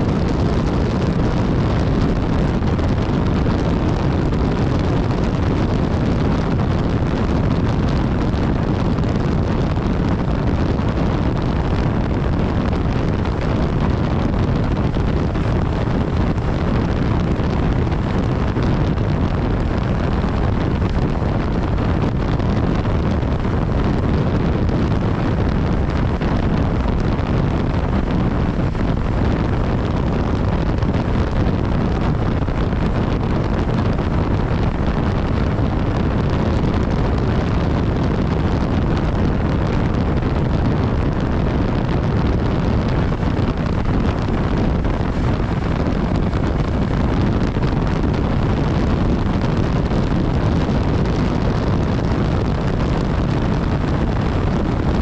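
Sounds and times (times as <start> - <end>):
motorcycle engine and tyre noise: 0.0 - 55.0
wind rush on microphone: 0.0 - 55.0.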